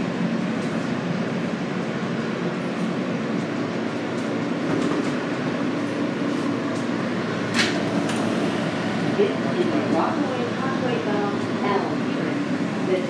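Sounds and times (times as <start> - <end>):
subway car ventilation hum: 0.0 - 13.0.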